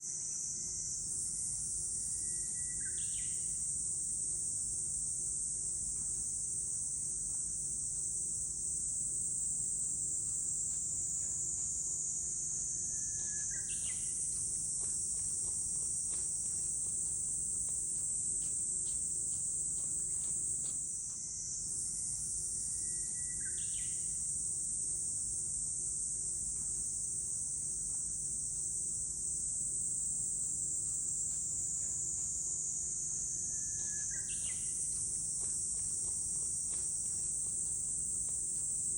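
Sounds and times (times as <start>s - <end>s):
high-pitched insect chorus: 0.1s - 5.2s, 8.8s - 38.9s.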